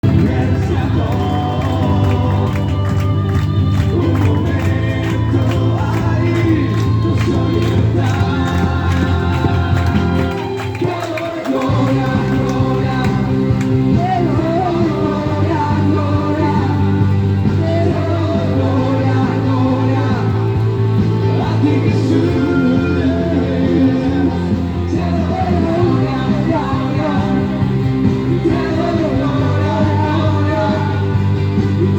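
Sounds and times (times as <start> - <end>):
loud music: 0.0 - 31.9
voices singing: 0.0 - 31.9.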